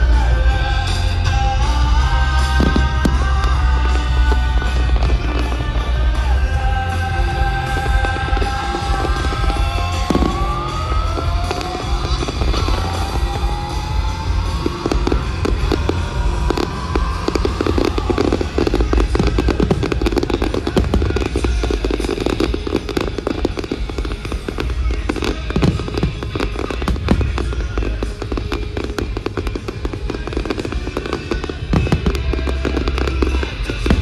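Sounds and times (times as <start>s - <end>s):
fireworks bangs and crackles: 0.0s - 34.0s
loud music with heavy bass: 0.0s - 34.0s.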